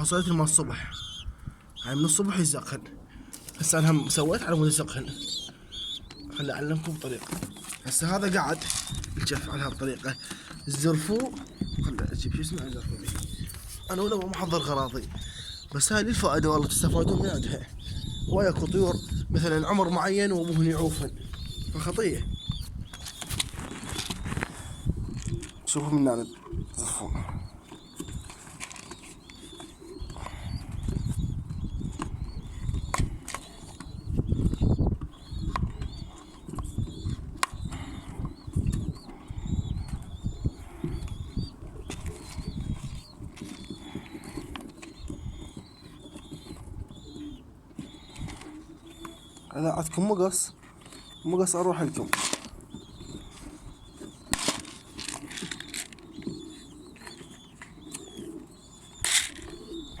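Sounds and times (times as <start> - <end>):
small birds chirping: 0.0 - 60.0
rustling and handling noise: 3.0 - 34.1, 34.9 - 60.0.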